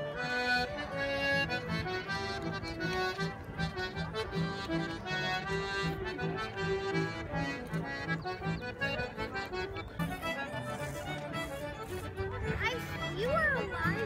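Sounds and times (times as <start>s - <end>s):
button accordion playing lively tune: 0.0s - 14.0s.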